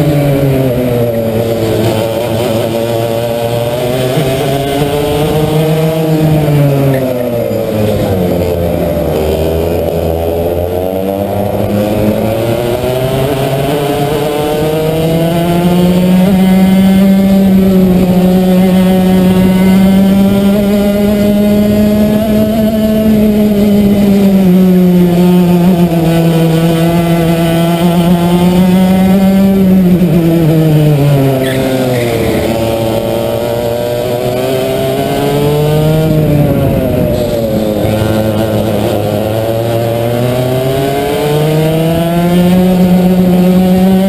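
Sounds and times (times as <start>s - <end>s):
racing kart engine: 0.0s - 44.0s.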